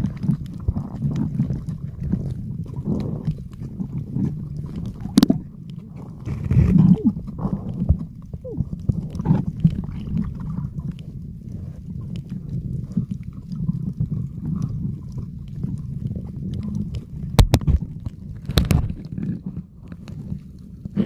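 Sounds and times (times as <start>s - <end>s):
falling gurgles: 0.0s - 19.6s
underwater clicks: 0.0s - 21.0s
underwater rumble of water: 0.0s - 21.0s.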